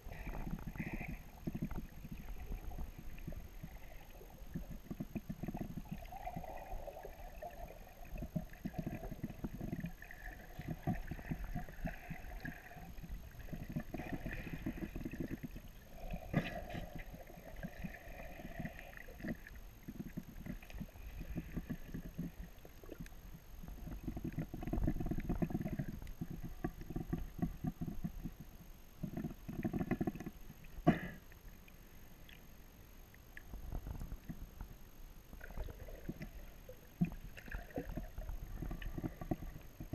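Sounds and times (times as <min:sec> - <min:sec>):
dull underwater rushing: 0:00.0 - 0:28.4, 0:35.4 - 0:39.9
underwater water swishing: 0:00.0 - 0:39.9.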